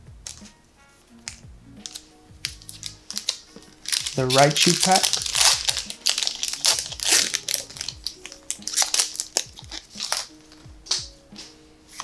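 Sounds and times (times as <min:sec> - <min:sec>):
background music: 0:00.0 - 0:12.0
foil wrapper crinkling: 0:01.3 - 0:11.1.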